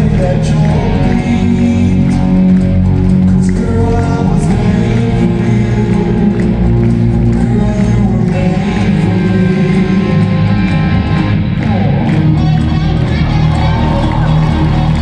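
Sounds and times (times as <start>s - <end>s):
music with singing voice: 0.0s - 15.0s.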